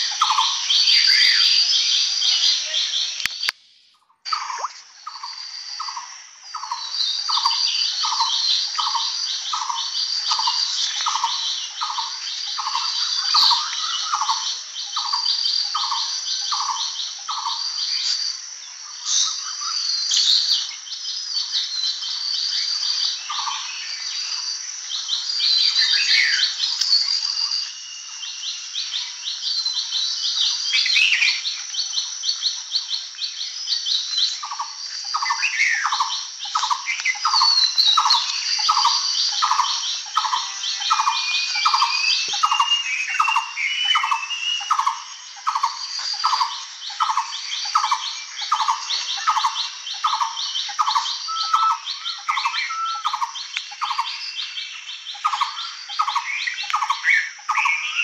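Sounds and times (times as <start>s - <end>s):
bird chirps: 0.0s - 58.0s
songbirds trilling: 0.0s - 58.0s.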